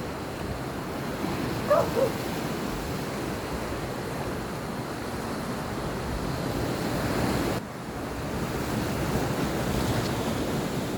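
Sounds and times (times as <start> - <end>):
sea waves washing on shore: 0.0 - 10.9
wind on microphone: 0.0 - 10.9.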